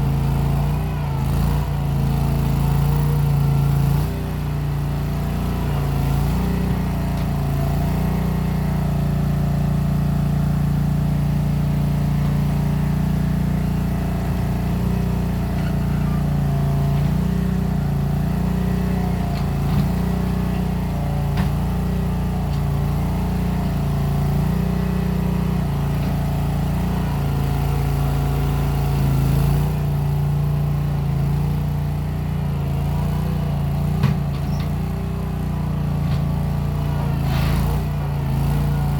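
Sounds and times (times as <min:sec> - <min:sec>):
skid steer engine under load: 0:00.0 - 0:38.9.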